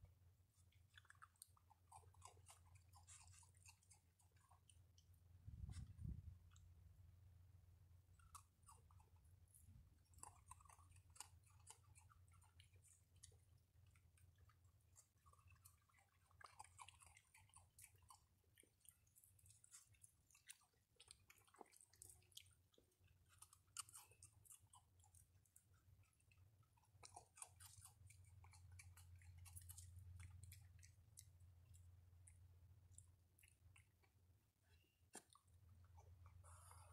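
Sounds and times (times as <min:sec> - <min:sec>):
low steady hum: 0:00.0 - 0:16.4, 0:17.1 - 0:36.9
animal crunching and chewing: 0:00.0 - 0:36.9.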